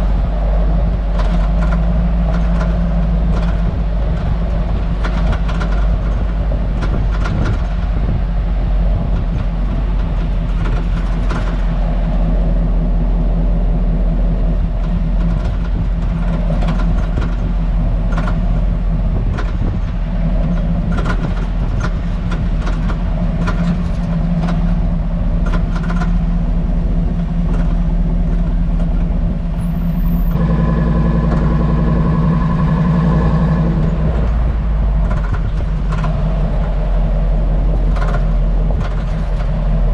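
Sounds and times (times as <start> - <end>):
drivetrain and road rumble: 0.0 - 39.9
suspension rattling knocks: 0.0 - 39.9.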